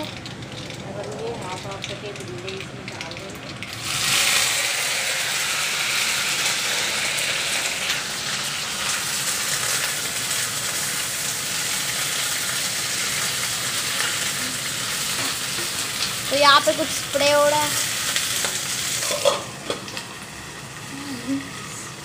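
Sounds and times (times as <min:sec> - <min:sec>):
seeds sizzling in oil: 0:00.0 - 0:22.0.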